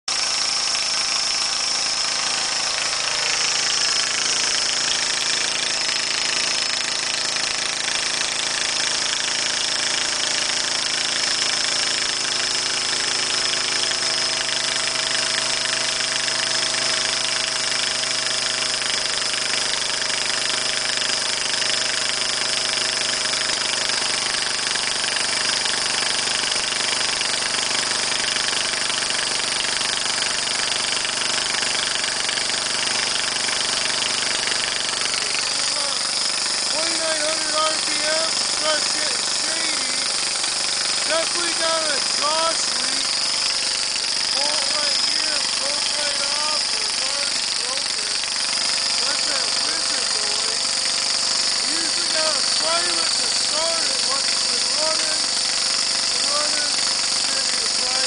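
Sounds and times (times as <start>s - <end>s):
riding mower engine running: 0.1s - 58.0s.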